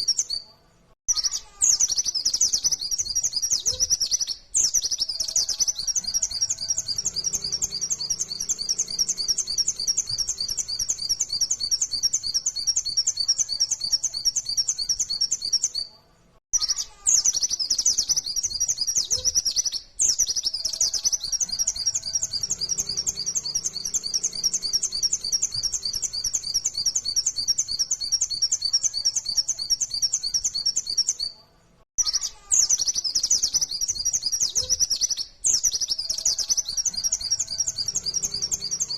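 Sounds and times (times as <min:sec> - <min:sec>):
bird high rapid chirping: 0:00.0 - 0:00.5, 0:01.1 - 0:15.9, 0:16.5 - 0:31.4, 0:32.0 - 0:38.9.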